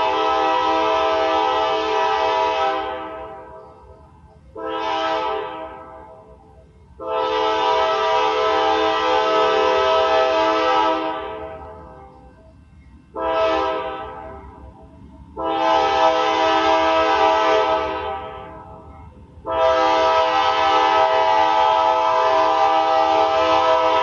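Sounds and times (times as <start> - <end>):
locomotive air horn blasts: 0.0 - 3.6, 4.5 - 6.2, 7.0 - 11.8, 13.1 - 14.4, 15.4 - 18.8, 19.4 - 24.0
train rumble: 0.0 - 24.0.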